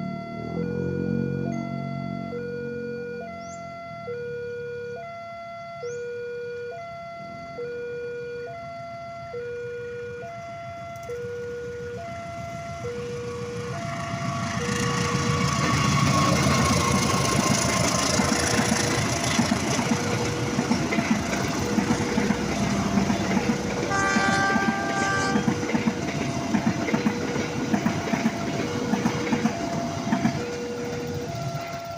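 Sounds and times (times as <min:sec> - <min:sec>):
train passing: 0:00.0 - 0:04.2, 0:08.5 - 0:31.9
two-tone crossing alarm: 0:00.0 - 0:31.9.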